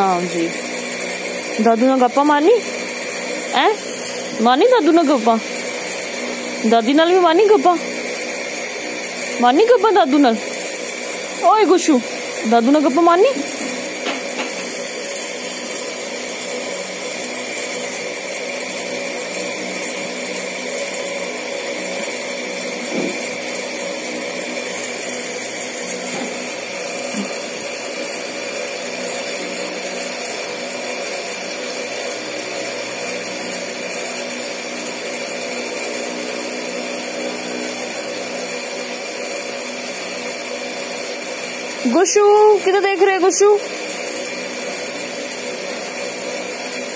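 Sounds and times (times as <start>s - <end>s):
electric motor whirring: 0.0s - 46.9s.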